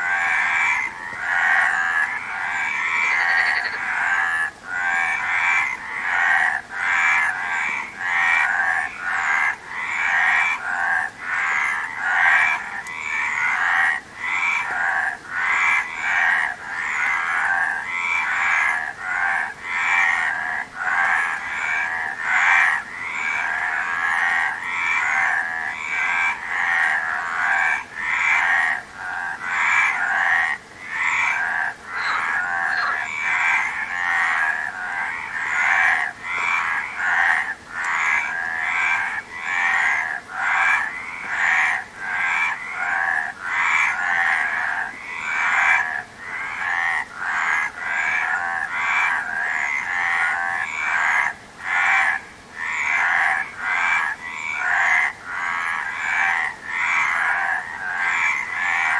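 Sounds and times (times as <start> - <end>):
frogs croaking: 0.0 - 58.9.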